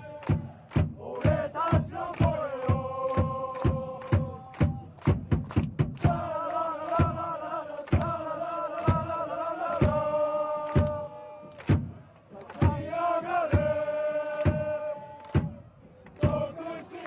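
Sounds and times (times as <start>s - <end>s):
crowd chanting: 0.0s - 5.0s, 6.0s - 17.0s.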